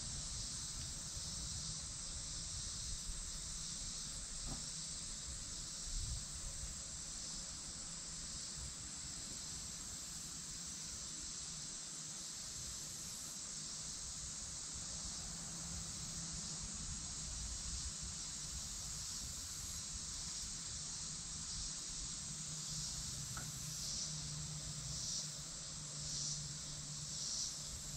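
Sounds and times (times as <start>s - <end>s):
insects chorus: 0.0s - 27.9s.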